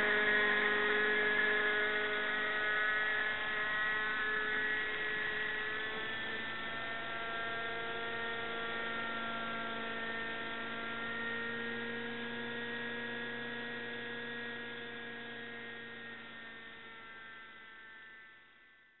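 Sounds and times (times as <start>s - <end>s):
model helicopter hovering: 0.0s - 17.6s.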